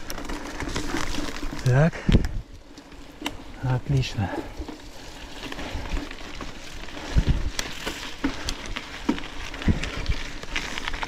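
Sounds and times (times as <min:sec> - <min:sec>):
bike clicks and rattles: 0:00.0 - 0:11.0
bike tyres rustling on trail: 0:00.0 - 0:11.0.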